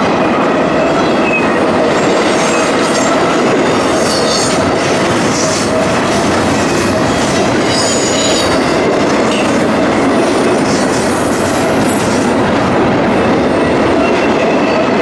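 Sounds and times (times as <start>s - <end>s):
freight train rumbling and clattering: 0.0s - 15.0s
train wheel squeal: 0.8s - 12.2s, 13.3s - 15.0s.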